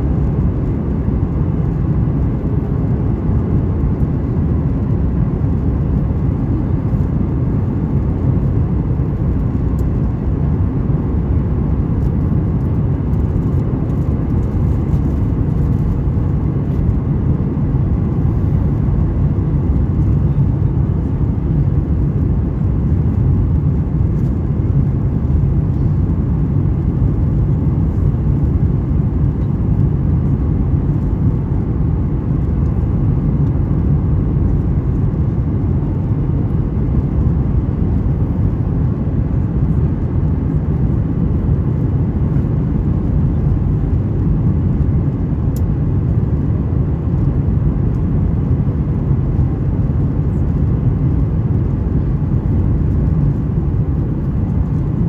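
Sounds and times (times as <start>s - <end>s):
airplane cabin roar: 0.0s - 55.0s.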